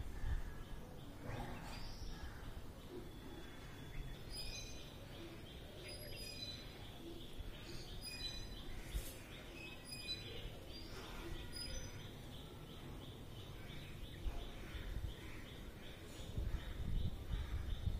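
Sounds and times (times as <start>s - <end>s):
low background noise: 0.0s - 17.9s
small birds chirping: 0.0s - 17.9s.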